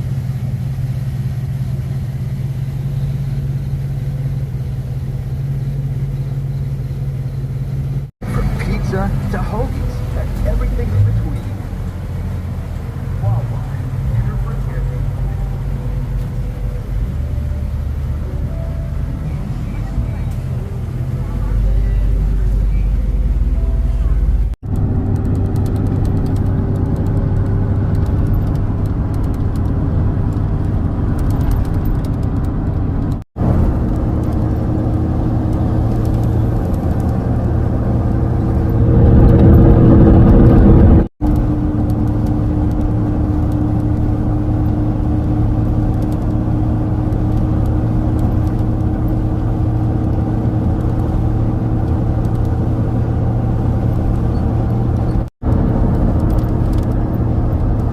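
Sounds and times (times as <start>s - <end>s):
vehicle engine and road rumble: 0.0s - 57.9s.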